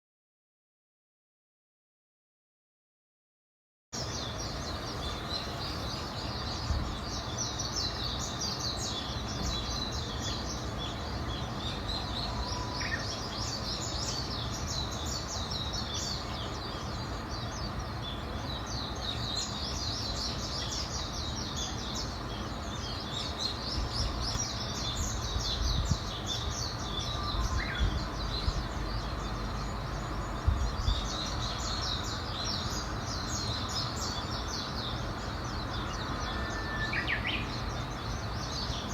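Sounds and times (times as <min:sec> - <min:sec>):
small birds chirping: 0:04.0 - 0:38.9.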